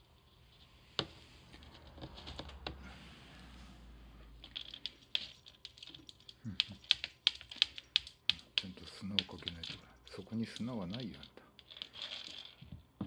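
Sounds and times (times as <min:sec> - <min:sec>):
kitten scratching in cat litter: 0:00.0 - 0:12.7.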